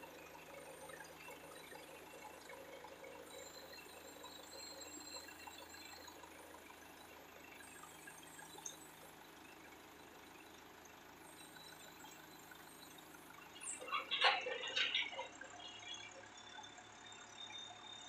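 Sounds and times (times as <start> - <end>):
machinery running with thin whine: 0.0 - 18.0.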